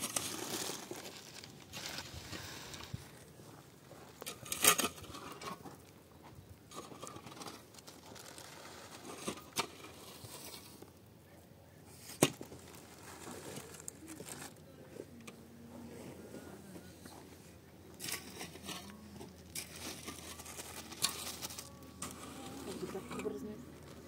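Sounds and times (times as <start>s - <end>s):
rustling and crinkling handling: 0.0s - 11.0s, 11.8s - 24.0s.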